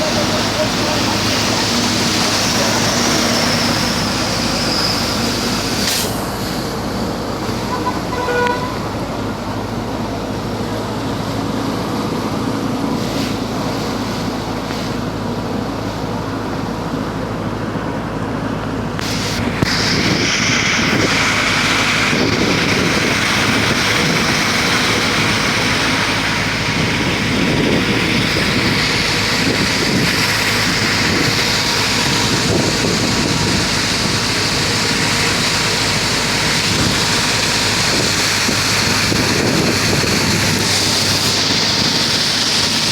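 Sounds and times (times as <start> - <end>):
heavy rain pouring: 0.0 - 17.4, 18.8 - 42.9.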